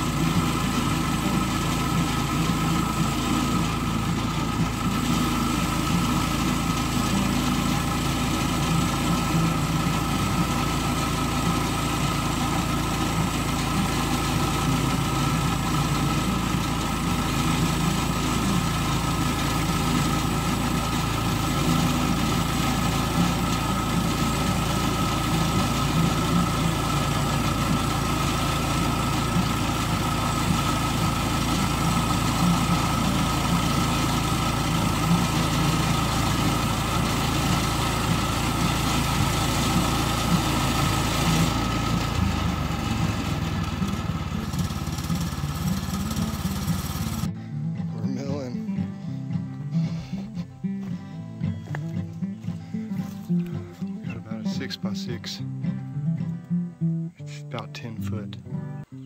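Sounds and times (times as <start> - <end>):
sawmill engine under load: 0.0 - 47.4.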